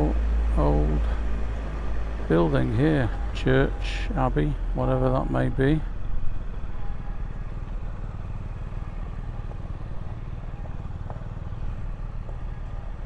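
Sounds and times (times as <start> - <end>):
motorcycle engine at low revs: 0.0 - 4.9, 5.5 - 13.0.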